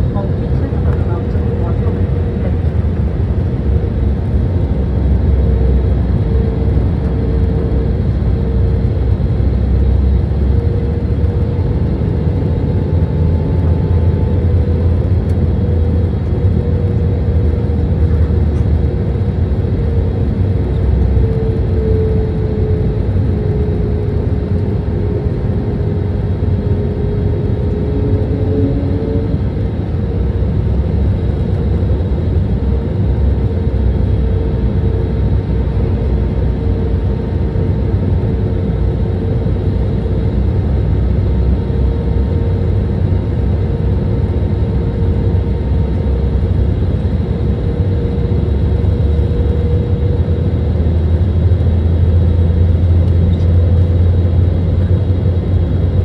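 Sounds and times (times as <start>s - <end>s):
humming engine tone: 0.0s - 56.0s
jet engines rumbling: 0.0s - 56.0s.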